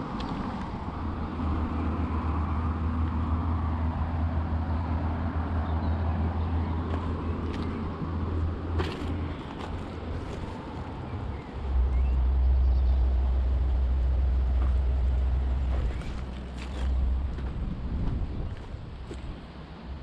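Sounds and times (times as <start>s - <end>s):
distant road traffic rumble: 0.0s - 20.0s.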